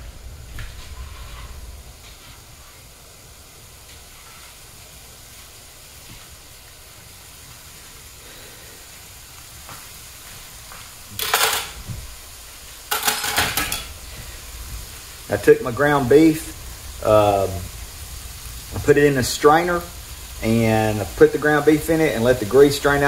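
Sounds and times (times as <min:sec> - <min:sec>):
vegetables sizzling in pan: 0:00.0 - 0:23.0.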